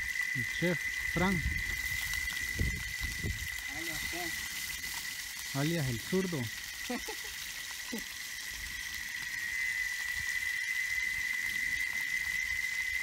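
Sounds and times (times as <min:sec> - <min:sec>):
fish frying in a pan: 0:00.0 - 0:13.0
high-pitched insect drone: 0:00.0 - 0:13.0.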